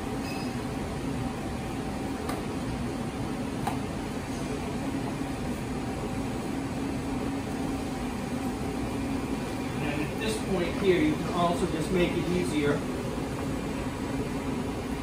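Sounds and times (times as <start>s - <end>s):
kitchen machinery humming: 0.0s - 15.0s.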